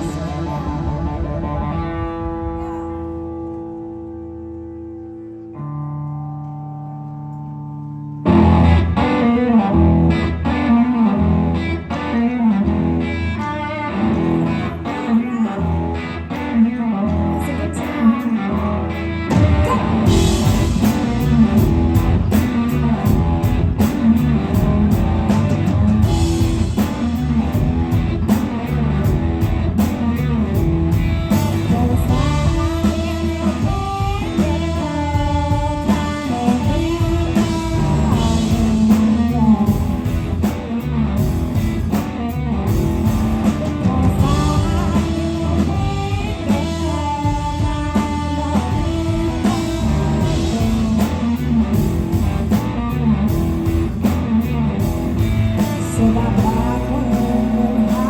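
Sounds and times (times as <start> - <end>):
blues-rock band playing: 0.0 - 58.0
lead electric guitar: 0.0 - 58.0.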